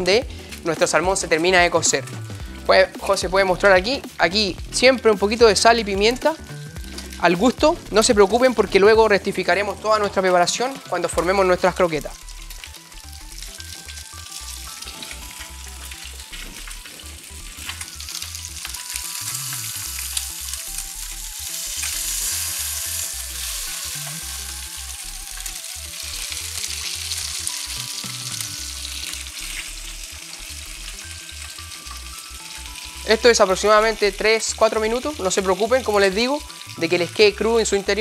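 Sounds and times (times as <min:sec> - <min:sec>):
fish sizzling in a frying pan: 0:00.0 - 0:38.0.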